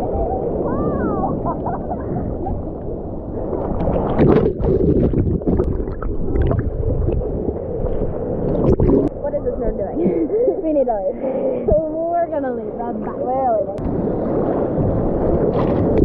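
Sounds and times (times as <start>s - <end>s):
ocean surf churning: 0.0s - 16.0s
waves splashing: 0.0s - 16.0s.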